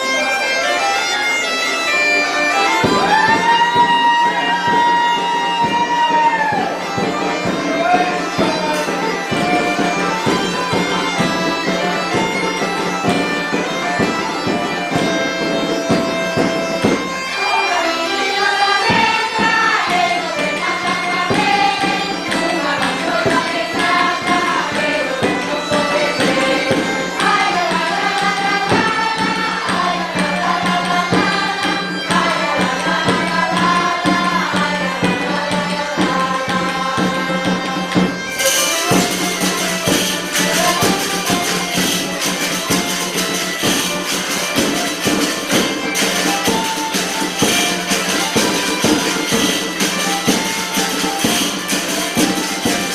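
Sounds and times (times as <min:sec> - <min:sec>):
bagpipe melody over drone: 0:00.0 - 0:52.9
hand percussion: 0:00.0 - 0:52.9
jingling tambourine: 0:00.0 - 0:52.9.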